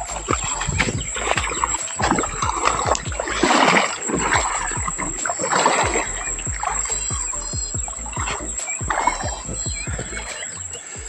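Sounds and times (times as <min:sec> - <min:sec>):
wading splashes in river water: 0:00.0 - 0:11.0.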